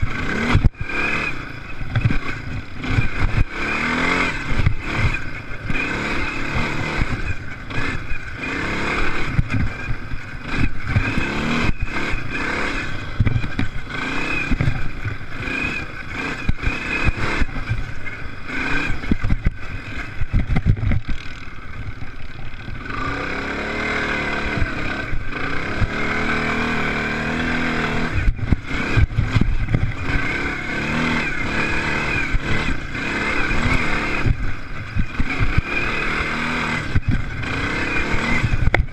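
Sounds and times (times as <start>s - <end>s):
motocross engines revving: 0.0s - 38.9s.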